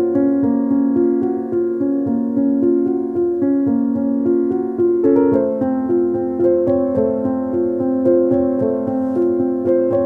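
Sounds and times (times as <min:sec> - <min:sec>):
keyboard playing even notes: 0:00.0 - 0:10.0.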